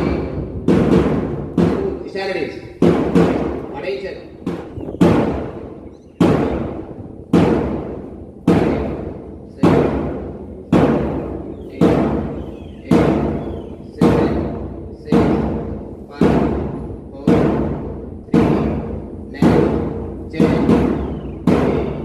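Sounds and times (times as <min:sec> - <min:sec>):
drum beats ringing: 0:00.0 - 0:22.0.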